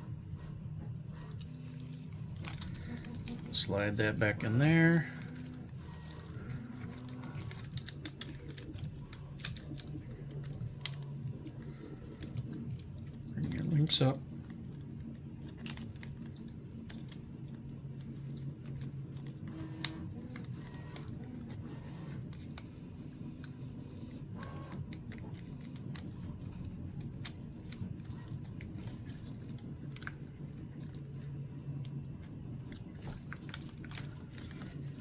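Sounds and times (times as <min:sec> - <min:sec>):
steady low hum: 0:00.0 - 0:35.0
small plastic parts clicking: 0:01.2 - 0:35.0.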